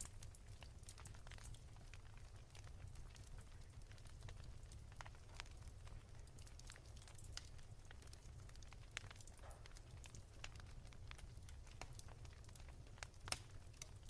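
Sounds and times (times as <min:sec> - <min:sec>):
faint wood fire crackling: 0:00.0 - 0:14.0.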